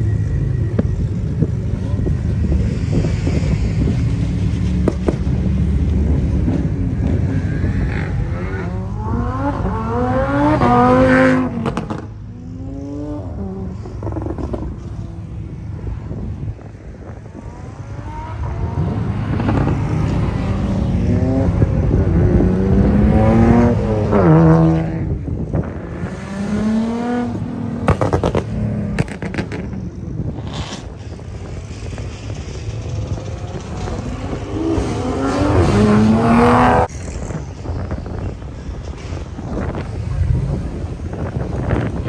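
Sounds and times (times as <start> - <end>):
car engines accelerating: 0.0 - 42.0.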